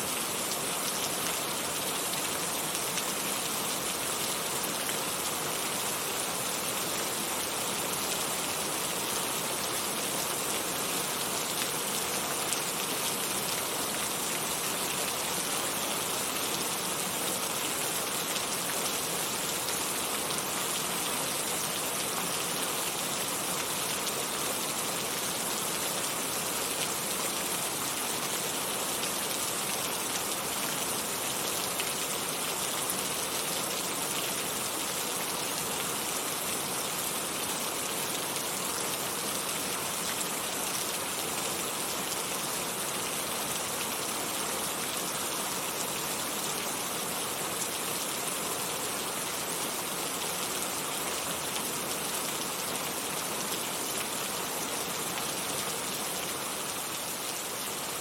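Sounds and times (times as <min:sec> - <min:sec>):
heavy rain falling: 0:00.2 - 0:58.0.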